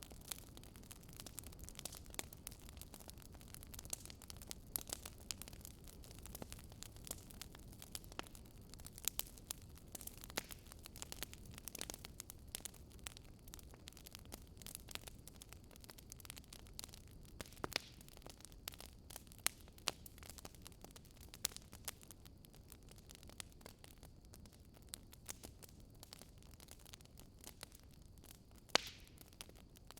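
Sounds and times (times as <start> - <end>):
wood fire popping and snapping: 0.0 - 29.9.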